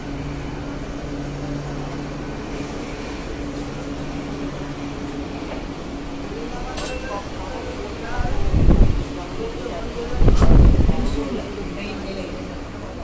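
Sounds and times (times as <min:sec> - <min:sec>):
train electrical hum: 0:00.0 - 0:13.0.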